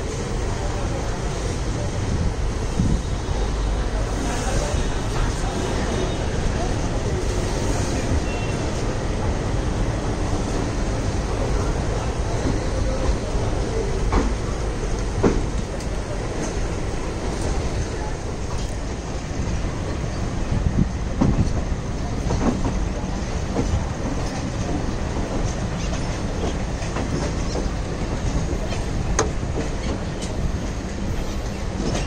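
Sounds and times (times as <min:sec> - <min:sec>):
train coaches rumbling: 0:00.0 - 0:32.0.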